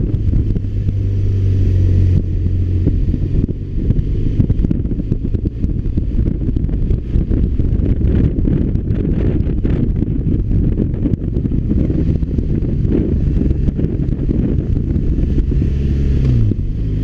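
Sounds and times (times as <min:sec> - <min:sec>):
motorcycle engine hum: 0:00.0 - 0:17.0
wind buffeting on microphone: 0:00.0 - 0:17.0.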